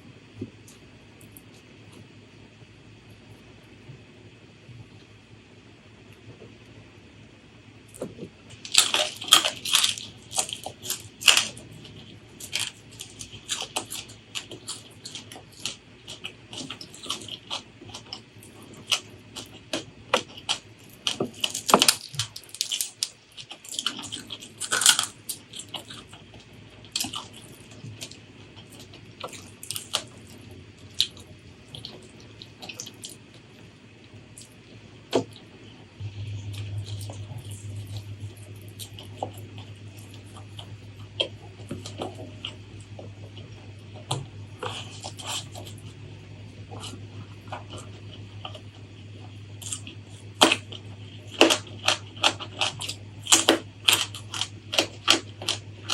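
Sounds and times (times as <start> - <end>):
person chewing crunchy food: 7.9 - 55.9.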